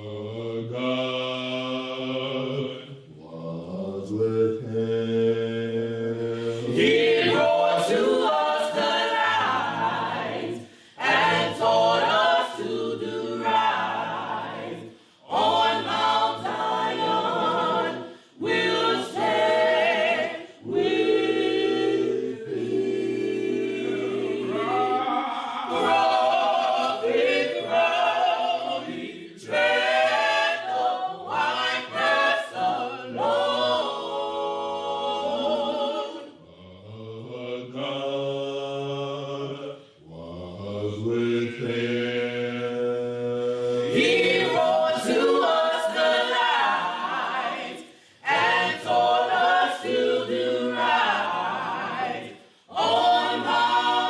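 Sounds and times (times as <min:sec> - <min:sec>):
choir singing a cappella gospel: 0:00.0 - 0:54.0.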